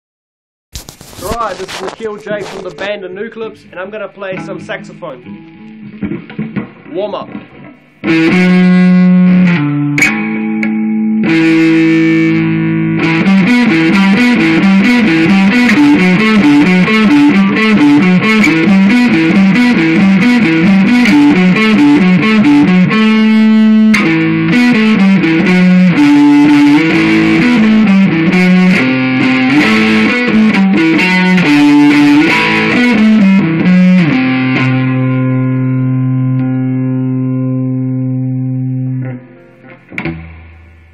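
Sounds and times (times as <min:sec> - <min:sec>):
distorted electric guitar riff: 0:00.8 - 0:40.9.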